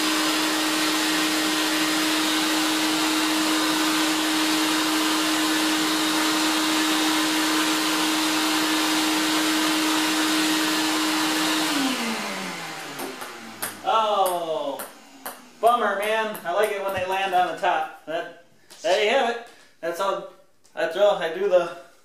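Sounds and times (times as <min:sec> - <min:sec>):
shop vac running: 0:00.0 - 0:17.9.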